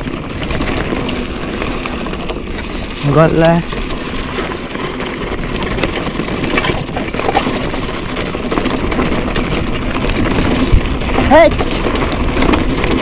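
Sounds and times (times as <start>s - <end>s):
bike rattling: 0.0s - 13.0s
tyres crunching over loose stones: 0.0s - 13.0s.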